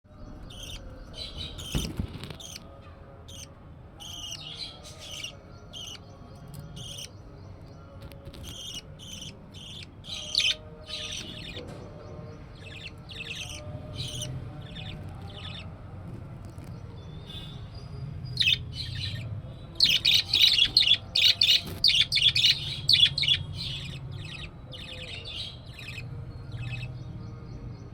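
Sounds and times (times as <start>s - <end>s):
bird chicks chirping: 0.2s - 2.7s, 3.3s - 15.8s, 16.4s - 27.9s.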